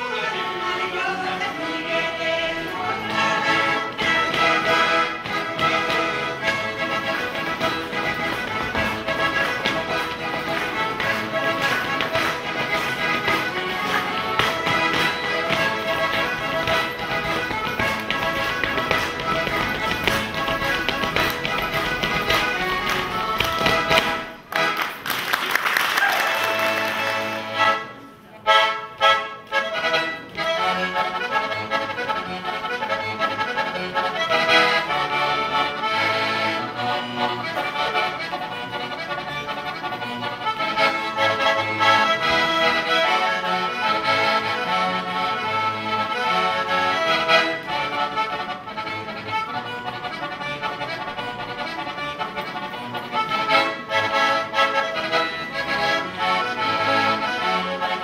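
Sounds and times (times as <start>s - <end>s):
button accordion playing folk tune: 0.0s - 25.7s, 26.3s - 58.0s.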